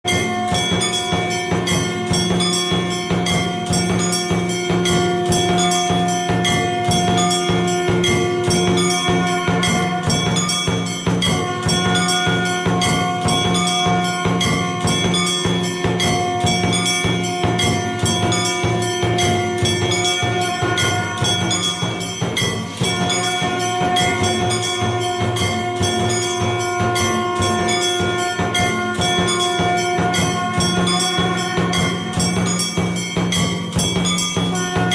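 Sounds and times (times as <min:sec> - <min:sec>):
bells ringing and clashing: 0:00.0 - 0:34.9
percussion: 0:00.0 - 0:34.9
conch shell blown in long notes: 0:00.1 - 0:34.9.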